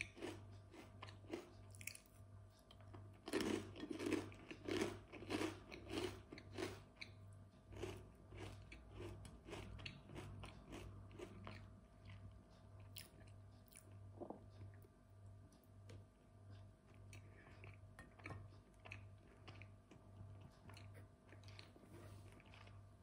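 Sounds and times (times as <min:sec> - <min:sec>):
person chewing crunchy food: 0:00.0 - 0:15.0, 0:15.8 - 0:23.0.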